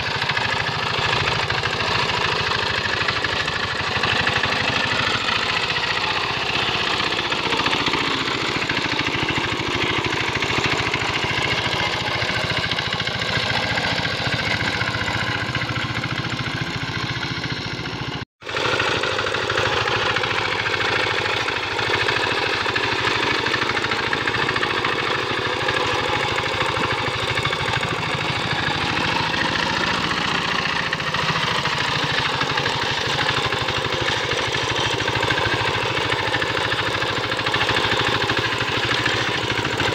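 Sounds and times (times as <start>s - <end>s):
small diesel engine running under load: 0.0s - 39.9s.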